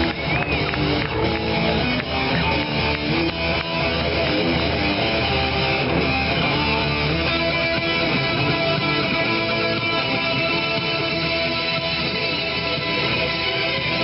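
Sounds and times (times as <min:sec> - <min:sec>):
strummed guitar music: 0:00.0 - 0:14.0.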